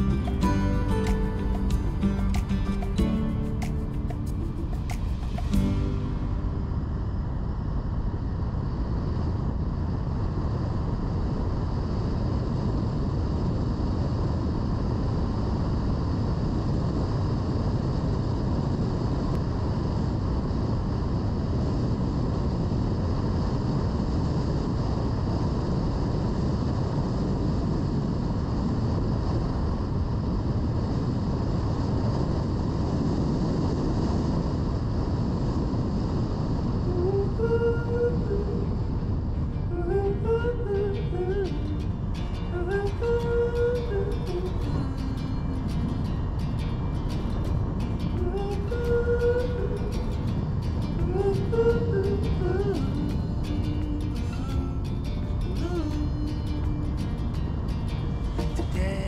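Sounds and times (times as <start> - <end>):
wind noise: 0.0 - 59.0.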